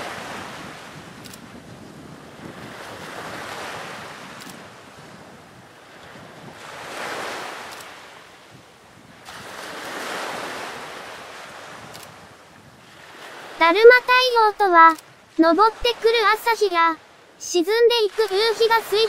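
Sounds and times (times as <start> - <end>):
sea waves washing in: 0.0 - 19.0.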